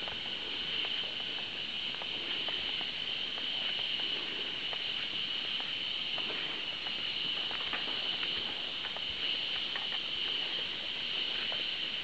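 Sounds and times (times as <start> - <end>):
insects calling in chorus: 0.0 - 12.0.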